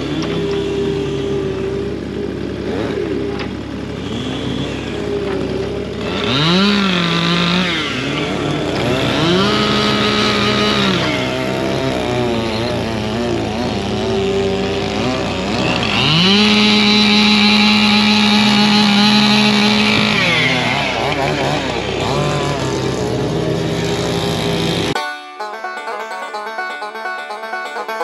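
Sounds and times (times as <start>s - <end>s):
chainsaw engines revving: 0.0s - 25.0s
banjo music: 5.4s - 28.0s.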